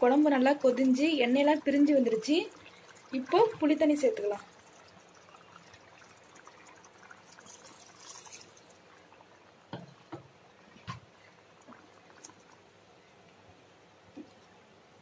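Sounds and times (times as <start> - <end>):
curry simmering: 0.0 - 15.0
liquid pouring into a pan: 0.7 - 12.7.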